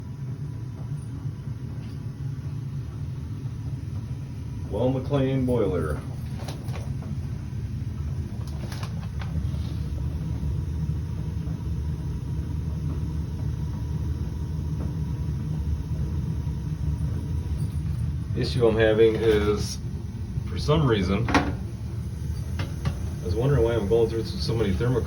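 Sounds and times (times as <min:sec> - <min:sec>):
gas boiler low rumble: 0:00.0 - 0:25.0.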